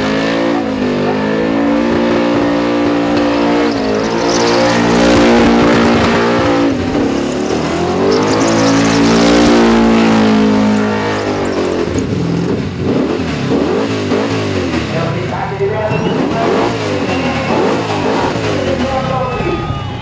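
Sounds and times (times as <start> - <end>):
car engine revving high: 0.0 - 15.4, 16.0 - 18.9.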